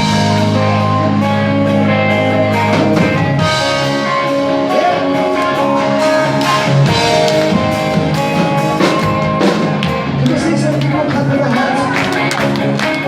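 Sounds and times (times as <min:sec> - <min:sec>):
drum kit: 0:00.0 - 0:13.0
electric guitar: 0:00.0 - 0:13.0
live rock band playing: 0:00.0 - 0:13.0.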